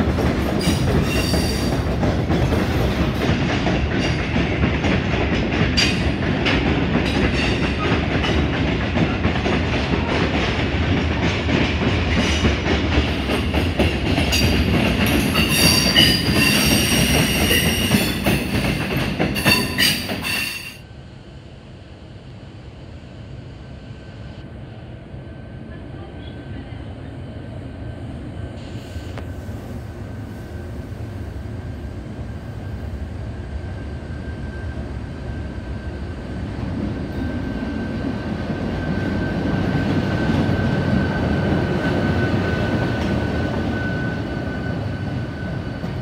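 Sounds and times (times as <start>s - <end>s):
train passing rumble: 0.0s - 46.0s.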